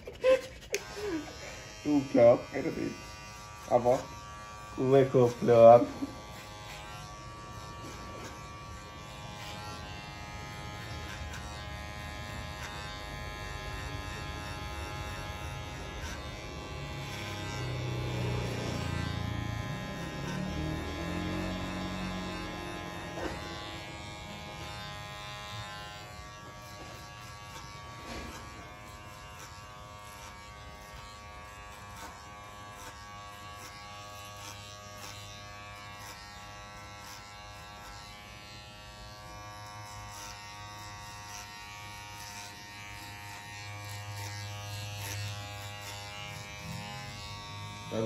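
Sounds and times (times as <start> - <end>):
electric hair clippers buzzing: 0.0 - 48.0.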